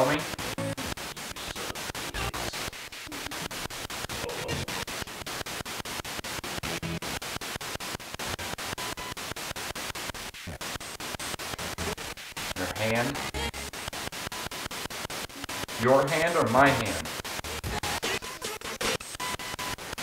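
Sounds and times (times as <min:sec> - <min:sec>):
radio static pulsing: 0:00.0 - 0:20.0
snatches of radio broadcast: 0:00.0 - 0:20.0.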